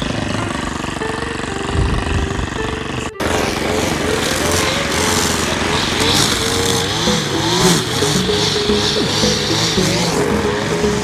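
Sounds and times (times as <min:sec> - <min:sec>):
push mower running: 0:00.0 - 0:11.0
string trimmer cutting grass: 0:00.0 - 0:11.0.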